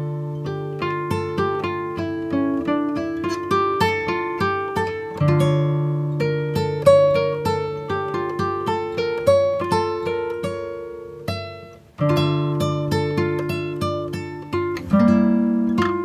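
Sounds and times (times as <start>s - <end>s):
acoustic guitar melody: 0.0s - 16.0s.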